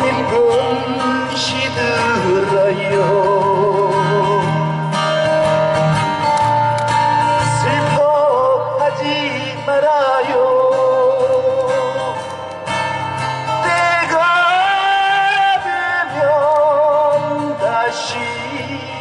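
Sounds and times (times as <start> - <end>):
man singing slow song: 0.0 - 5.1, 7.3 - 12.5, 13.4 - 19.0
acoustic guitar: 0.0 - 19.0.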